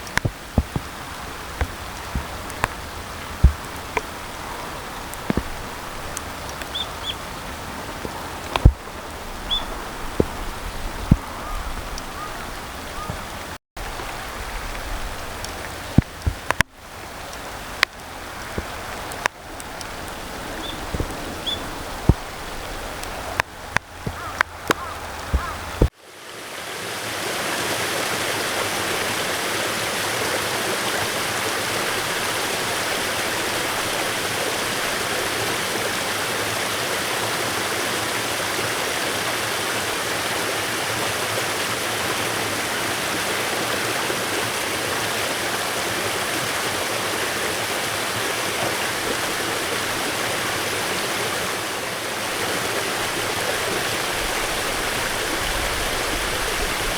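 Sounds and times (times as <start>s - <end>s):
water flowing in a stream: 0.0s - 56.9s.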